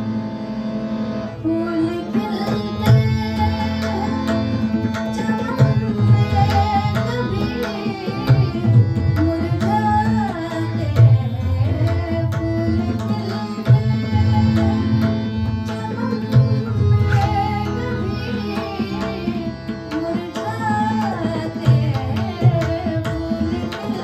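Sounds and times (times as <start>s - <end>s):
keyboard chords: 0.0s - 23.7s
tabla playing: 0.0s - 24.0s.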